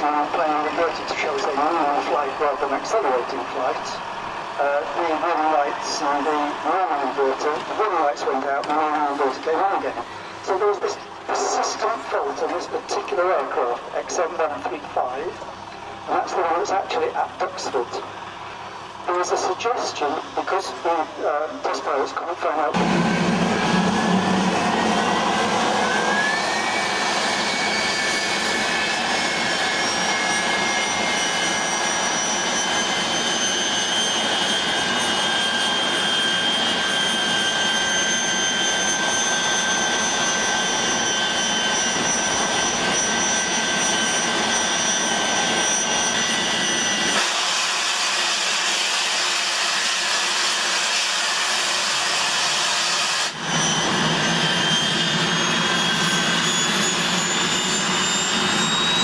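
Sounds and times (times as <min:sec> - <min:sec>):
high-pitched jet whines: 0:00.0 - 0:59.0
jet engines rushing: 0:00.0 - 0:59.0.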